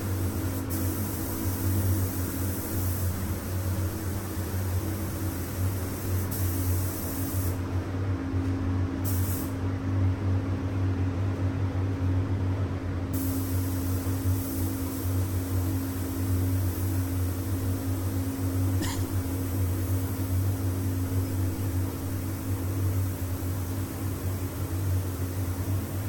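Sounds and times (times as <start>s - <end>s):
spray gun hissing: 0.0s - 7.6s, 9.0s - 9.6s, 13.2s - 26.0s
ventilation fans humming: 0.0s - 26.0s.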